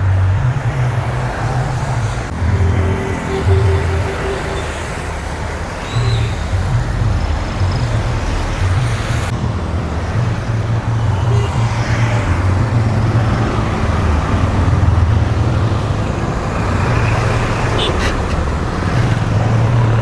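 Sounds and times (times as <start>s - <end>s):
road noise: 0.0s - 20.0s
vehicle engine rumbling: 0.0s - 20.0s.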